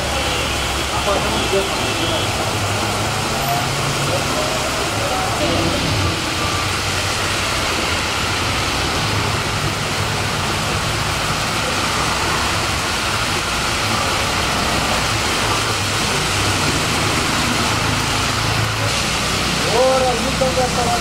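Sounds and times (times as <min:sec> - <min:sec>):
cars driving through water: 0:00.0 - 0:21.0
heavy rain falling: 0:00.0 - 0:21.0.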